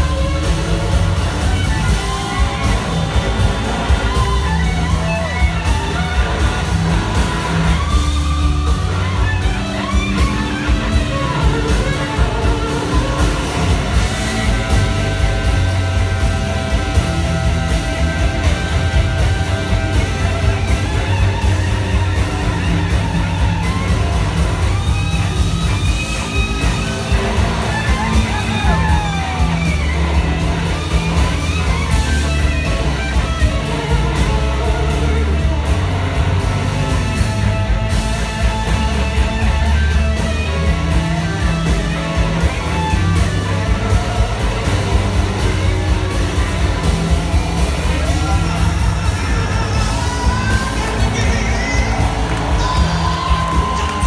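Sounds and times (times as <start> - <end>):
lead guitar bending notes: 0.0 - 54.0
live blues-rock band: 0.0 - 54.0.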